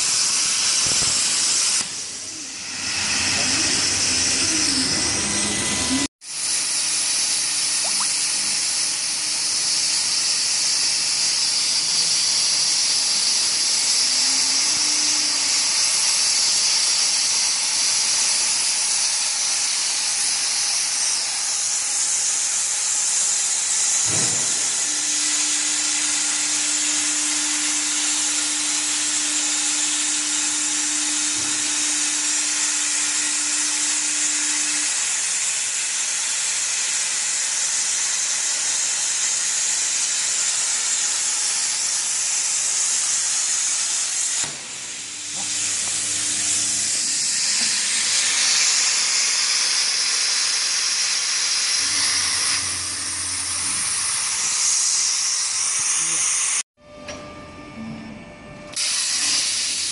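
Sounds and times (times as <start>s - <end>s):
plasma cutter hissing: 0.0s - 56.6s, 58.7s - 59.9s.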